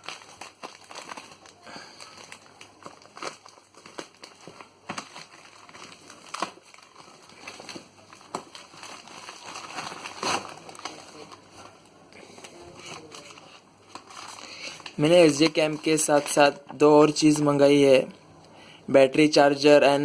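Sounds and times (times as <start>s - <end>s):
packaging crinkling and rustling: 0.0s - 16.8s.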